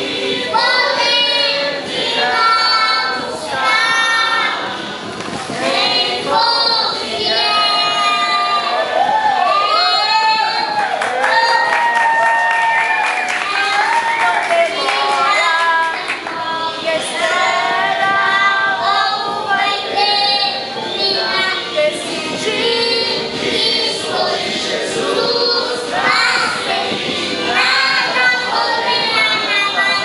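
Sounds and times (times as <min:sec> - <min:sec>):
children singing: 0:00.0 - 0:09.0, 0:13.3 - 0:30.0.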